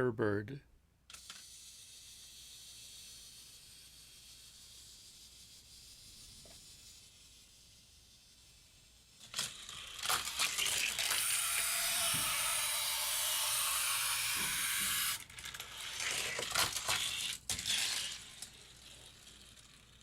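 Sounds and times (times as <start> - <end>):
toy car rolling on plastic track: 1.1 - 20.0.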